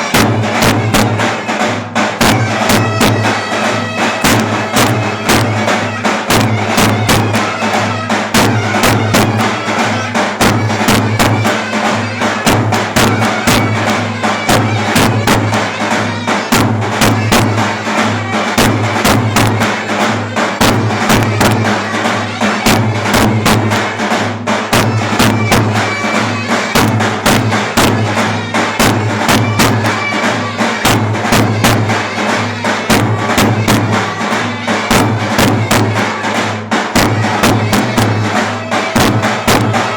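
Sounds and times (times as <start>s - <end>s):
fast drumbeat: 0.0s - 39.9s.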